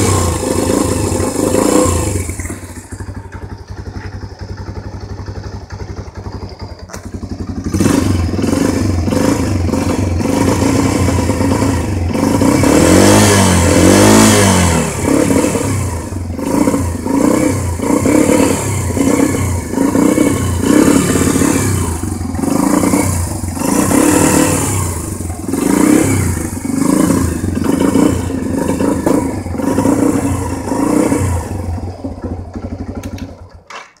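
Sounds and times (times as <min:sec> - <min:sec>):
motorcycle engine revving: 0:00.0 - 0:33.7.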